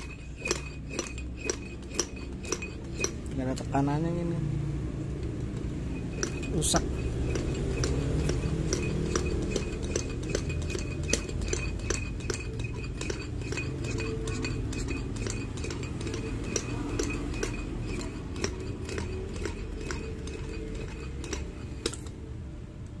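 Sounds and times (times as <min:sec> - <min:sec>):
metal nozzle clicks and clinks: 0:00.0 - 0:03.4, 0:06.1 - 0:22.2.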